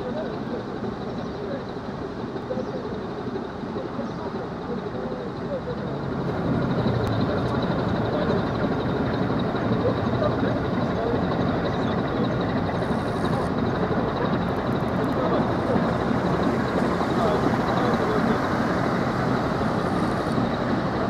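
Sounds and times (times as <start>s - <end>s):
ship engine rumble: 0.0s - 21.0s.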